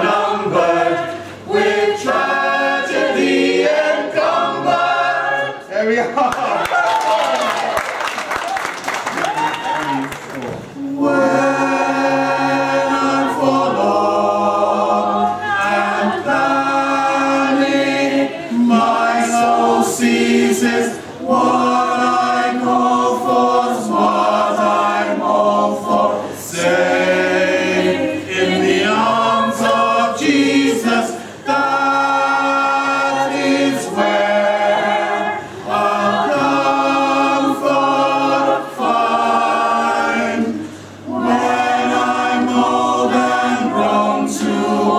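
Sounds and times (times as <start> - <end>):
mixed choir singing a cappella: 0.0 - 5.8, 10.8 - 44.9.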